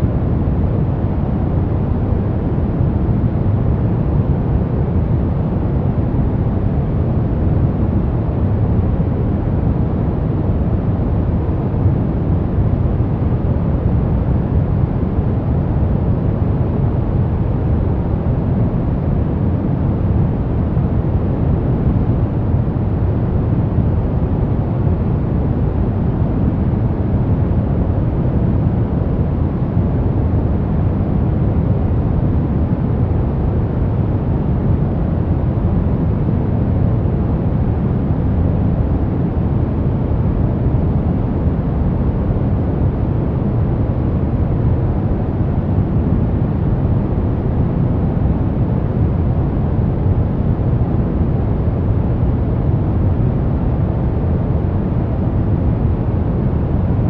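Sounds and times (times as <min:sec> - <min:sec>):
low white noise: 0:00.0 - 0:57.0.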